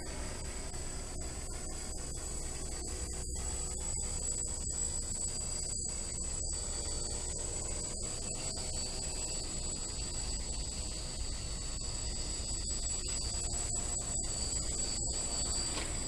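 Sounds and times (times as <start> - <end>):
quadcopter high whine: 0.0 - 16.0.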